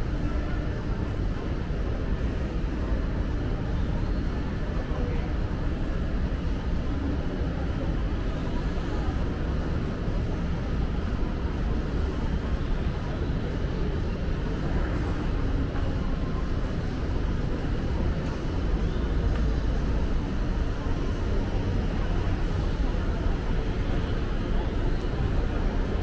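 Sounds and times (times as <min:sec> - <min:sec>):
shopping mall rumbling hum: 0:00.0 - 0:26.0.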